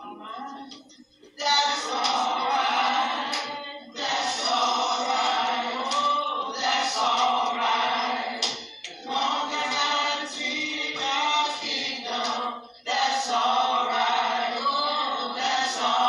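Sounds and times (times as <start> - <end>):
choir singing long notes: 1.4 - 16.0.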